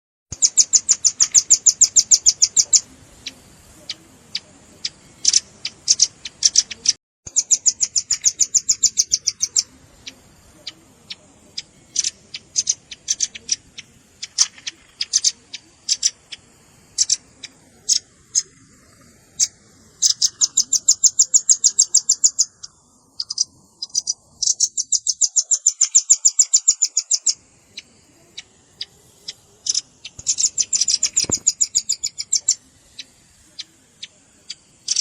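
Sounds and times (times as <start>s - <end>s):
bird trilling and chipping: 0.3s - 35.0s.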